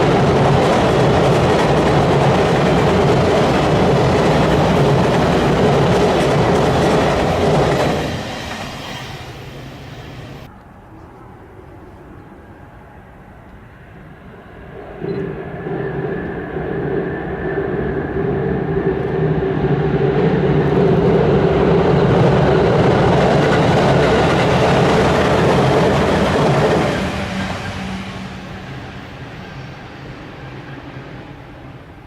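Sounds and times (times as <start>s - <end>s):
train rumbling across bridge: 0.0s - 10.5s, 11.2s - 32.0s.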